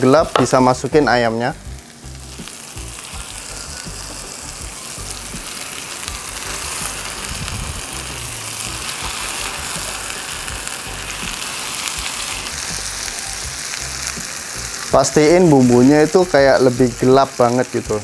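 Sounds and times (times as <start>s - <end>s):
paste sizzling in oil: 0.0s - 18.0s.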